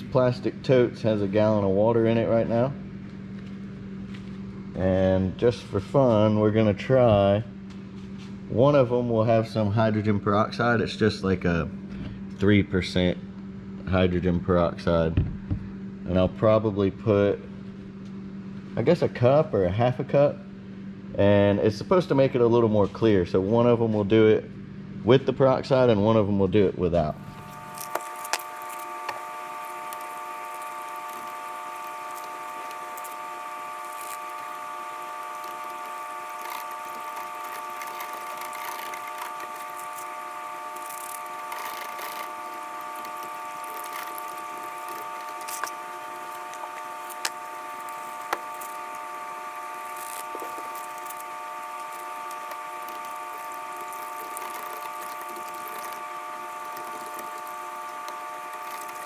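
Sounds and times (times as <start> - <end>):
steady mechanical whine: 0.0 - 59.0.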